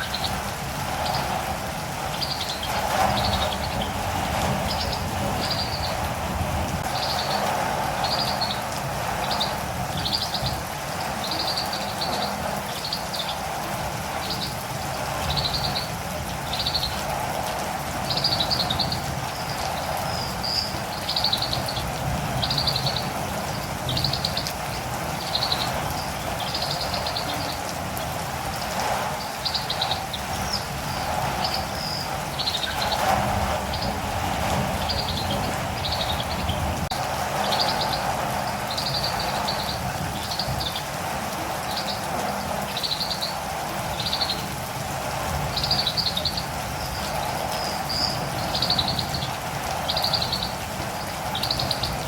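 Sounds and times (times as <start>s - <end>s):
birds chirping: 0.0s - 52.0s
rain hiss: 0.0s - 52.0s.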